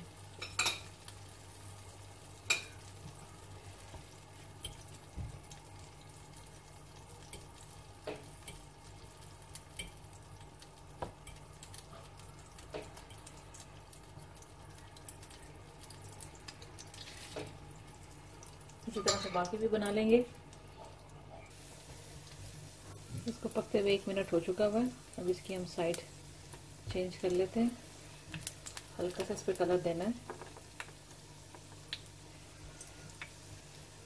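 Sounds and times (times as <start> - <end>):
bread sizzling in oil: 0.0 - 34.0.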